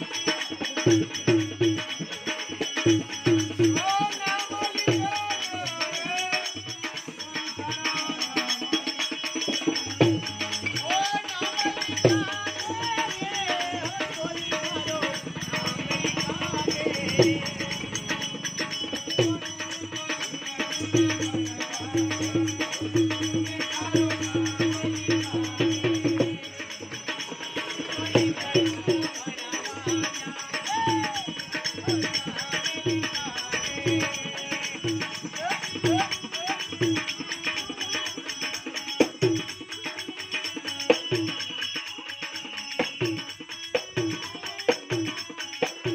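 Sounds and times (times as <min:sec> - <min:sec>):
folk music with hand percussion: 0:00.0 - 0:45.9.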